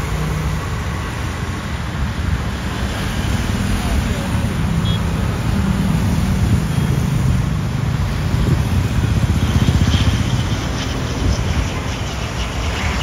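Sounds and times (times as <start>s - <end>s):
bus engine: 0.0s - 11.5s
road traffic: 0.0s - 13.0s
turboprop airliner flying low: 0.0s - 13.0s.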